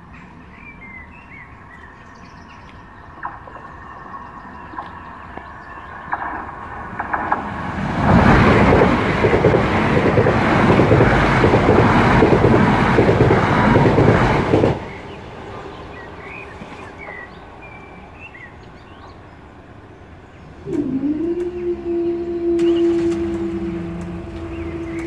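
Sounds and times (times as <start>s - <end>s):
train passing at speed: 3.0s - 25.0s.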